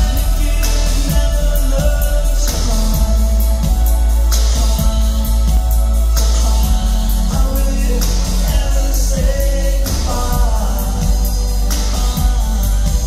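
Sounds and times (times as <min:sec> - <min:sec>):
heavy steady bass: 0:00.0 - 0:13.0
man singing: 0:00.0 - 0:13.0
synth-pop band playing: 0:00.0 - 0:13.0.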